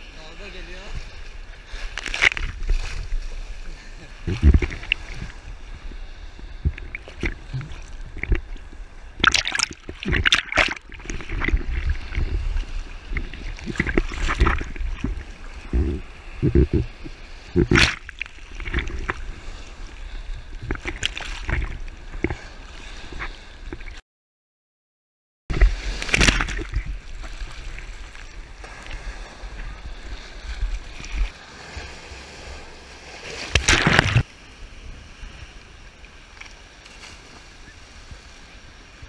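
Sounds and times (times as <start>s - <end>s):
rough sea sloshing: 0.0s - 24.0s, 25.5s - 39.0s
waves splashing: 0.0s - 24.0s, 25.5s - 39.0s.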